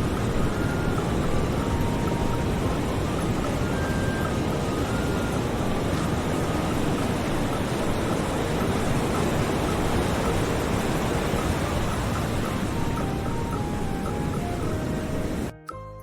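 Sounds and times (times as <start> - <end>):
ocean surf rushing: 0.0 - 15.5
faint high music notes: 0.0 - 16.0.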